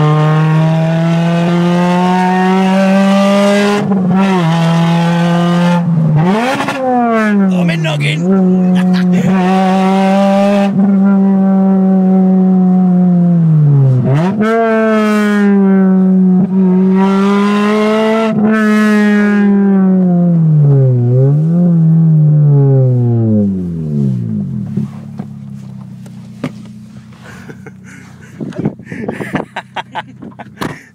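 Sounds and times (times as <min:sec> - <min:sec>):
car engine revving: 0:00.0 - 0:30.8.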